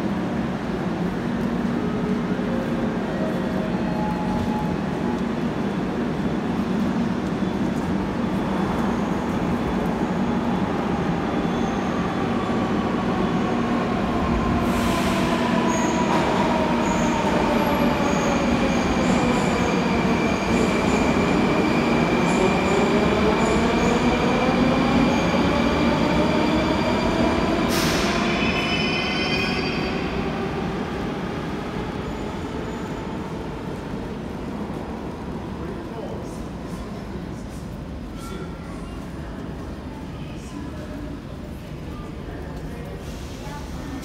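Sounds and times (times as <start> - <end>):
metro train rumble and motor whine: 0.0 - 44.0.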